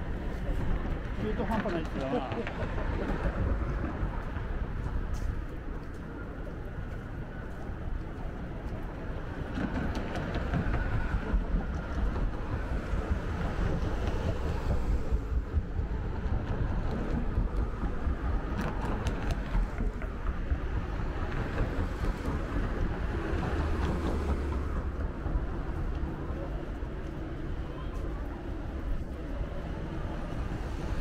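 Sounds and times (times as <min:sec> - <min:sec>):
road traffic rumble and hiss: 0:00.0 - 0:31.0.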